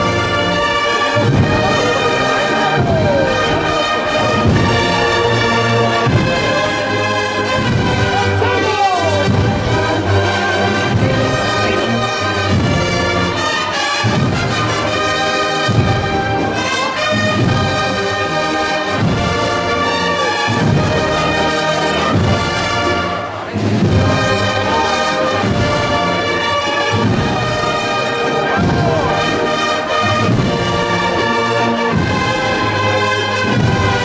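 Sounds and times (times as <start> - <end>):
brass band march with drums: 0.0 - 34.0.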